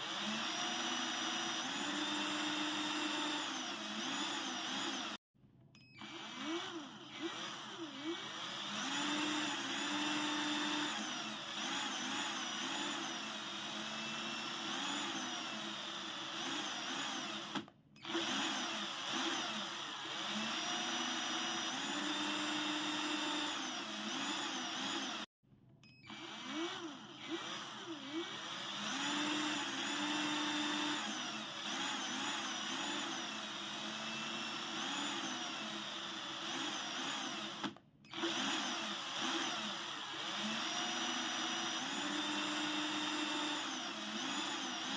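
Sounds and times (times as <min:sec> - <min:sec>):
power drill motor whine: 0:00.0 - 0:05.2, 0:05.8 - 0:44.9.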